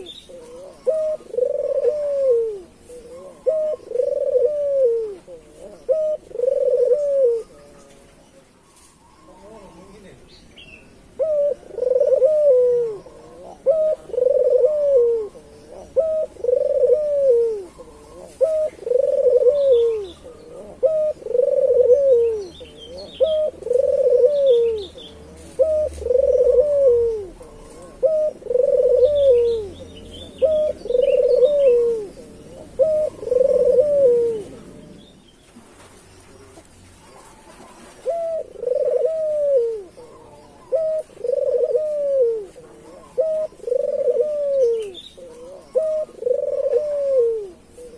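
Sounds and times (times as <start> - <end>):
dove cooing: 0.0 - 10.2, 11.0 - 47.9
small birds chirping: 0.0 - 47.9.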